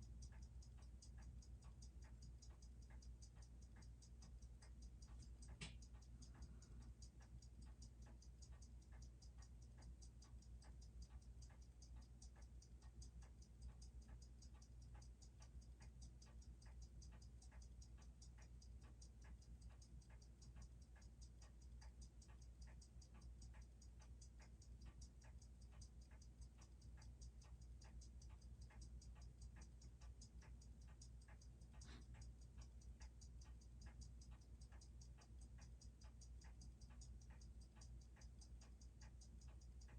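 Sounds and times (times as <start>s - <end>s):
watch ticking fast: 0.0s - 39.9s.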